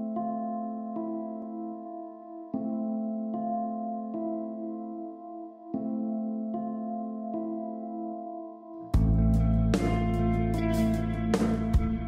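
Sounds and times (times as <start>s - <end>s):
calm background music: 0.0s - 12.0s.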